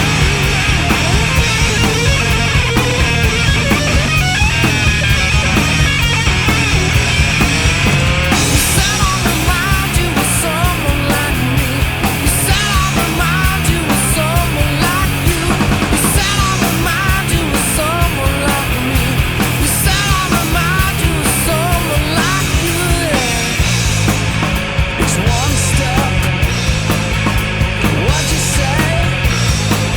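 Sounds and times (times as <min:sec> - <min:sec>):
distorted guitars: 0:00.0 - 0:29.9
steady drums: 0:00.0 - 0:29.9
wavering guitar lead line: 0:00.0 - 0:29.9.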